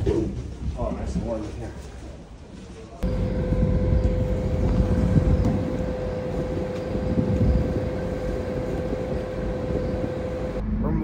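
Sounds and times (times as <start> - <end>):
constant hum: 0.0 - 11.0
ferry engines low rumble: 0.0 - 11.0.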